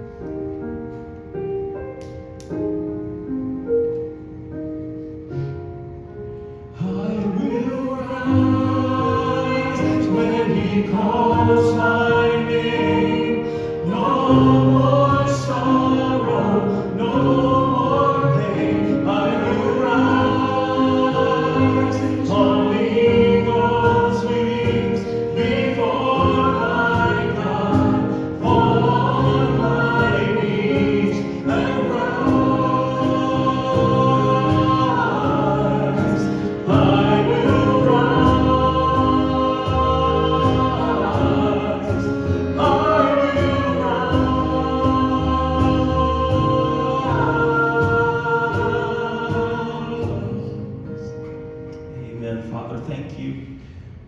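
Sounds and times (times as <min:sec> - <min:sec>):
voices singing a hymn: 0:06.8 - 0:53.3
instrumental accompaniment: 0:08.4 - 0:52.0.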